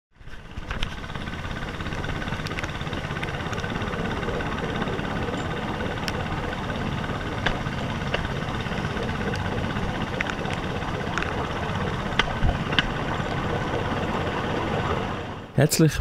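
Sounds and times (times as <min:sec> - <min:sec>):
small engine and wheels droning: 0:00.1 - 0:15.6.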